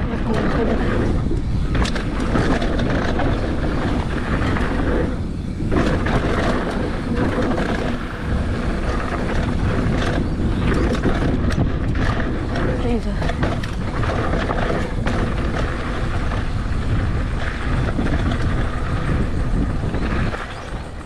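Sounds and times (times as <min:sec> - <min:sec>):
bike rattles and knocks: 0:00.0 - 0:21.0
tyres rumbling on dirt: 0:00.0 - 0:21.0
wind buffeting microphone: 0:00.0 - 0:21.0.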